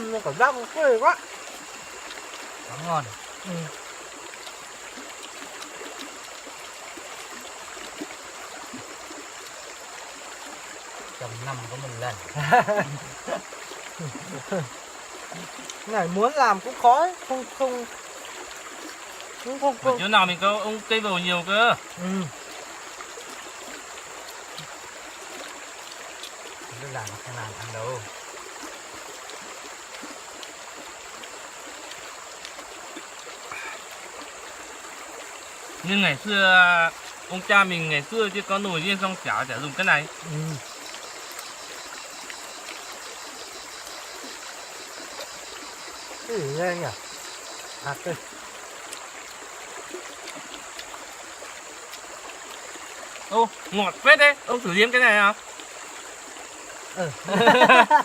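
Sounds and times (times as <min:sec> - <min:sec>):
stream water running: 0:00.0 - 0:58.0.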